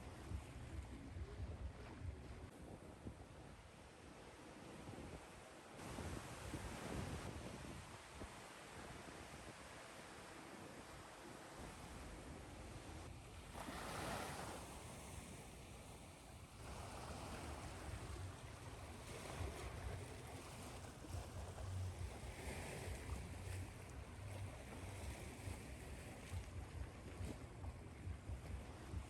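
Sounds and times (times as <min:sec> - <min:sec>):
surf hiss: 0:03.4 - 0:26.6
ocean waves washing in: 0:03.5 - 0:29.0.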